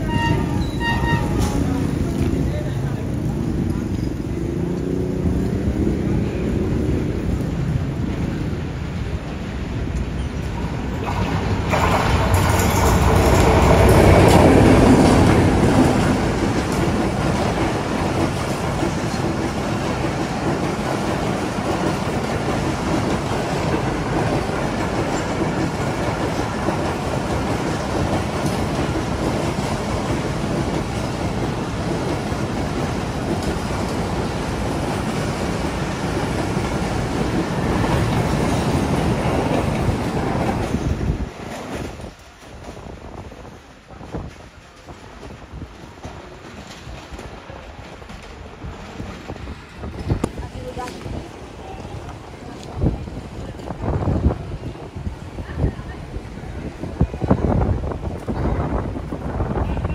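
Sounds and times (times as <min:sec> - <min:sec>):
train passing at speed: 0:00.0 - 0:59.9.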